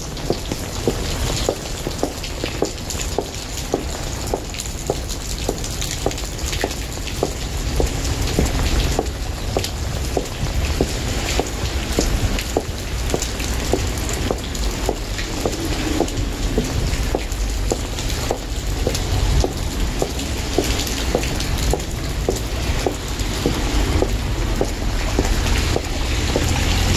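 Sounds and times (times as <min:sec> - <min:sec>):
steady rain falling: 0:00.0 - 0:26.9
footsteps walking: 0:00.2 - 0:26.9.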